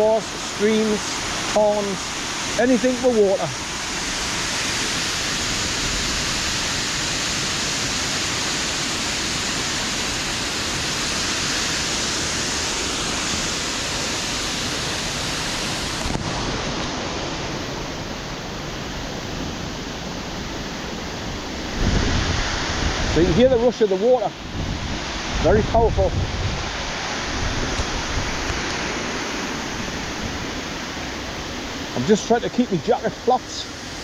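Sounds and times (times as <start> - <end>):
waterfall rushing down rock: 0.0 - 34.0.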